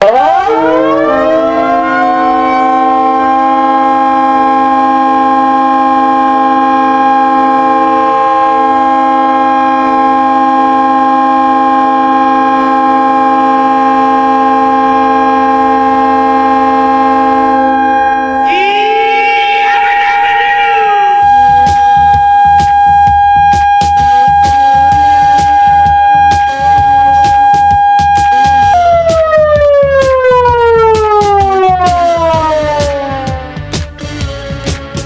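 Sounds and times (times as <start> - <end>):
hockey goal horn blowing: 0.2 - 33.6.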